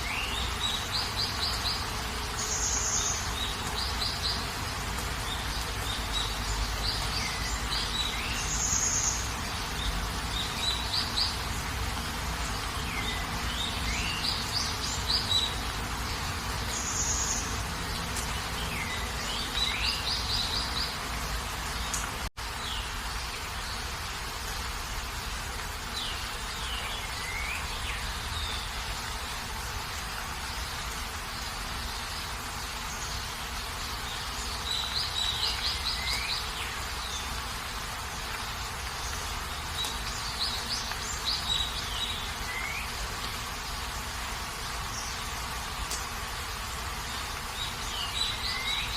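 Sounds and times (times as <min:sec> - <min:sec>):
rain hiss: 0:00.0 - 0:48.9.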